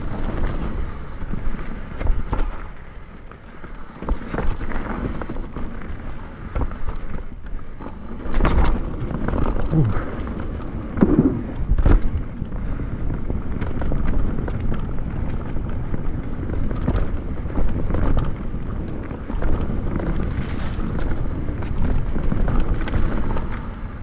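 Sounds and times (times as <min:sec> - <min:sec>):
bike rattling and knocking: 0:00.0 - 0:24.0
tyres rolling on dirt: 0:00.0 - 0:24.0
wind rushing over microphone: 0:04.1 - 0:24.0.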